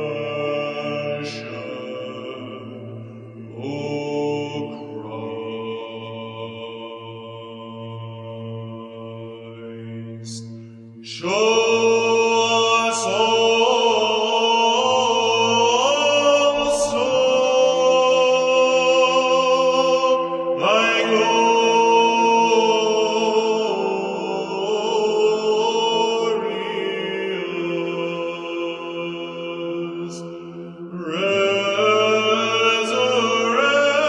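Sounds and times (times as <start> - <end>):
choir chanting long notes: 0.0 - 34.0.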